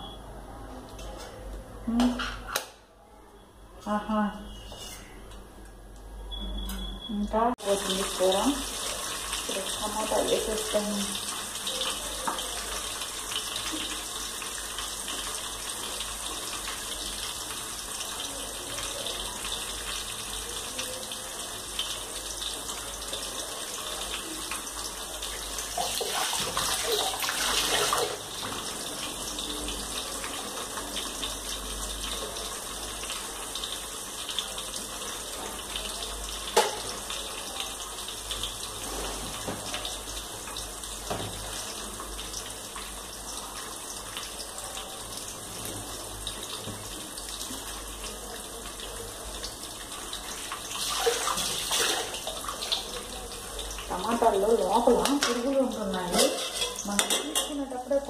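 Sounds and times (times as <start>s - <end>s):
water running from a tap: 7.6s - 58.0s.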